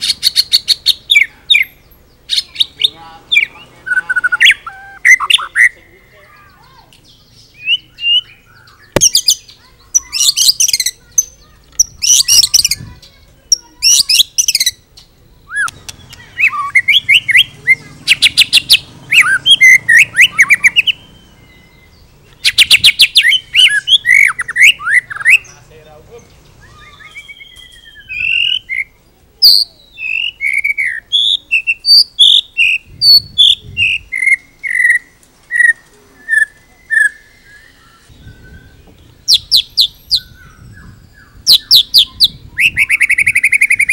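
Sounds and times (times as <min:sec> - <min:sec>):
songbird singing varied song: 0:00.0 - 0:43.9.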